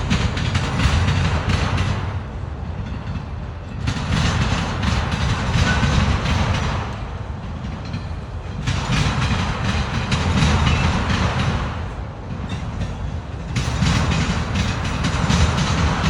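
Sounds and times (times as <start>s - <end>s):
train cars rumbling: 0.0s - 16.0s
wheels clacking over rail joints: 0.0s - 16.0s.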